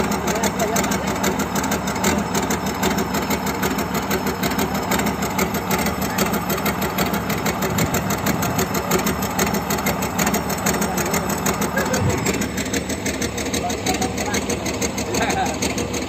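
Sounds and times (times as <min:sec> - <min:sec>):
diesel engine running roughly: 0:00.0 - 0:16.0.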